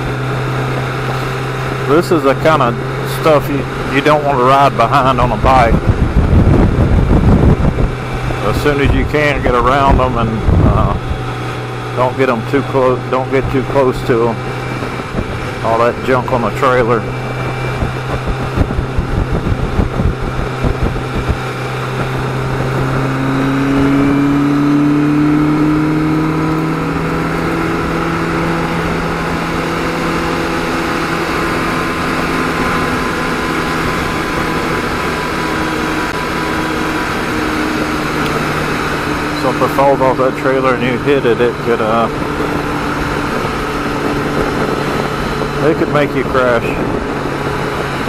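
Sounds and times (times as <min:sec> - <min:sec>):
motorcycle engine accelerating: 0:00.0 - 0:48.0
wind buffeting microphone: 0:00.0 - 0:48.0.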